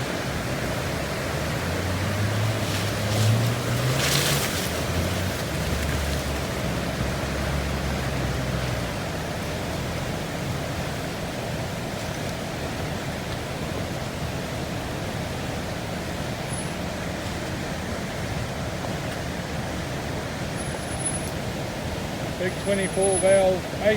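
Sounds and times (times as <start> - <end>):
car engine droning uphill: 0.0 - 23.9
steady wash of noise: 0.0 - 23.9.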